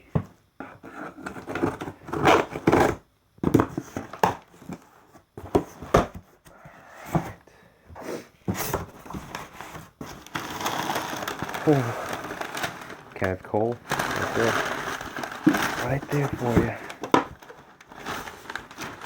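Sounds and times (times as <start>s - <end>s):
cardboard box rustling and scraping: 0.6s - 6.4s, 8.5s - 13.0s, 13.9s - 19.0s.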